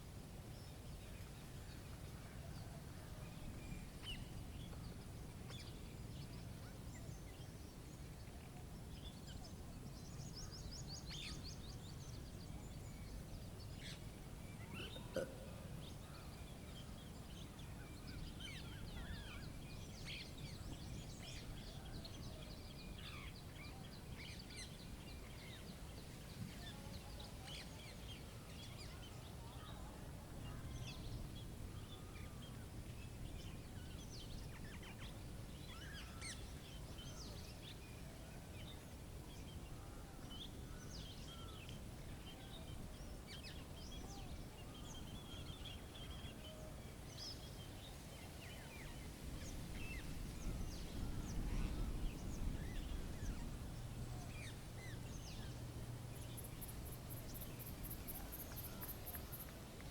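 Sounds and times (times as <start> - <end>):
low rumble of wind: 0.0 - 59.9
small birds chirping: 0.5 - 59.9.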